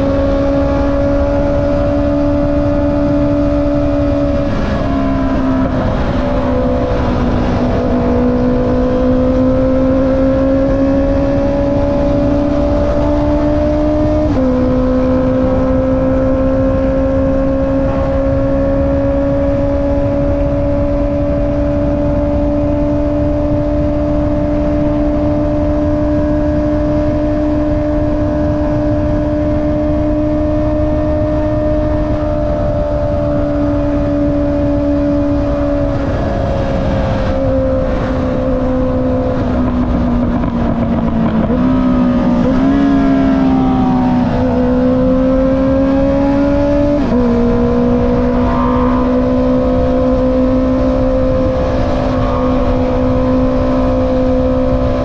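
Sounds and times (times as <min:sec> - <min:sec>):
motorcycle engine at high revs: 0:00.0 - 0:55.0
wind and road noise: 0:00.0 - 0:55.0.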